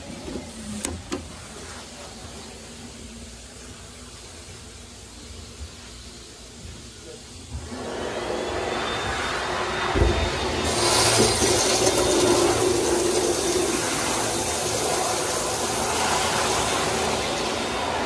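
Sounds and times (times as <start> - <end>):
toilet flushing: 0.0 - 6.6, 7.4 - 18.0
hiss of water refilling bowl: 1.4 - 18.0.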